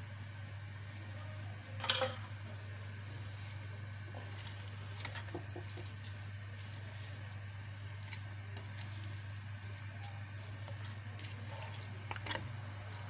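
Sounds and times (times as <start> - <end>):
wooden spatula stirring in a pot: 2.3 - 13.0.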